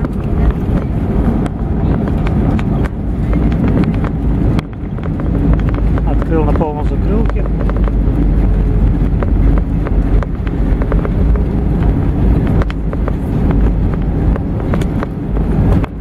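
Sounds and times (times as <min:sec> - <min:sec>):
clicks and rattles: 0:00.0 - 0:16.0
jet cabin low rumble: 0:00.0 - 0:16.0.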